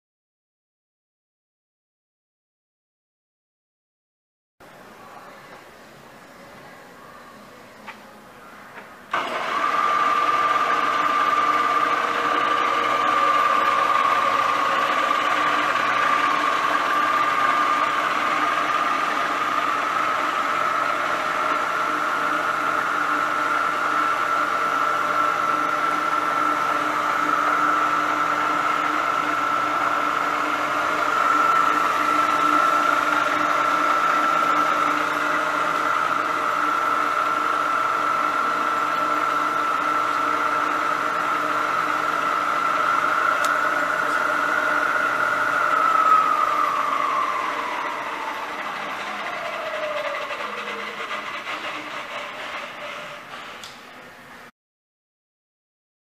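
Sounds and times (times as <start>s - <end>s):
drill press motor whine: 9.1s - 54.5s.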